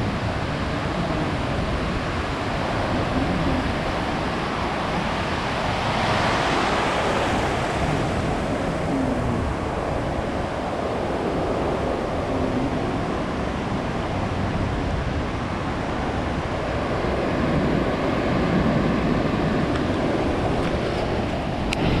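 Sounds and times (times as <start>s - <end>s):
surf breaking on beach: 0.0s - 22.0s.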